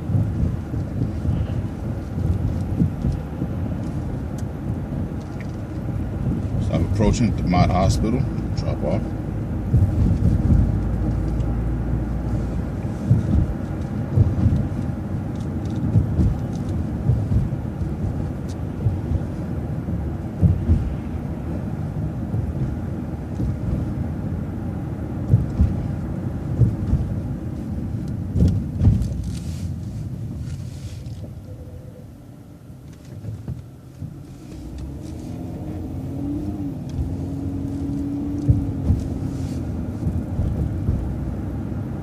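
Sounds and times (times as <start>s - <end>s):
thumps over bumps: 0.0s - 8.6s, 9.4s - 30.5s, 33.0s - 42.0s
bus engine and road rumble: 0.0s - 42.0s.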